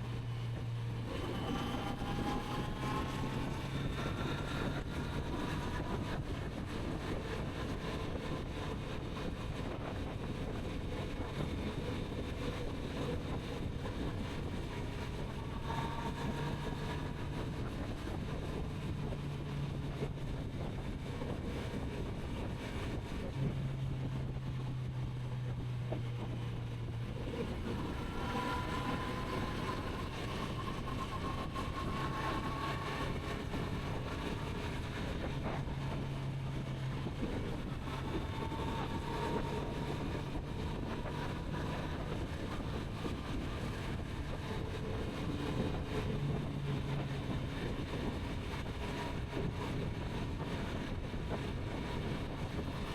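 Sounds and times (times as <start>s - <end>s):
wind noise on microphone: 0.0s - 52.9s.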